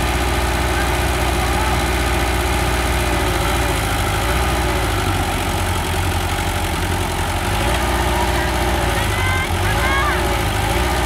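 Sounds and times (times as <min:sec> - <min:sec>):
bulldozer diesel engine rumbling: 0:00.0 - 0:11.0.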